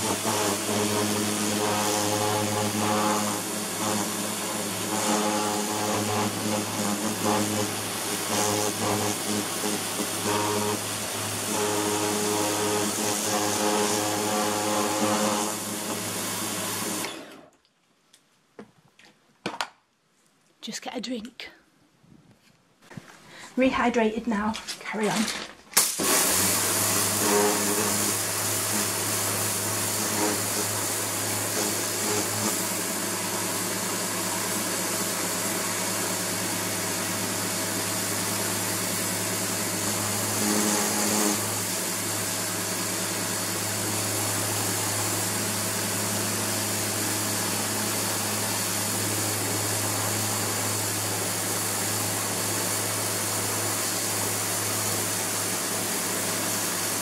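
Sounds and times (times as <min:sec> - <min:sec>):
high-pressure water jet hissing: 0:00.0 - 0:17.2, 0:25.8 - 0:57.0
pressure washer motor hum: 0:00.0 - 0:17.4, 0:25.8 - 0:57.0.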